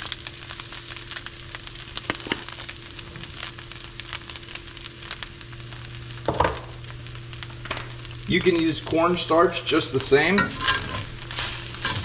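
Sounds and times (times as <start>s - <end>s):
sausage sizzling in skillet: 0.0s - 12.0s
steady low hum: 0.0s - 12.0s.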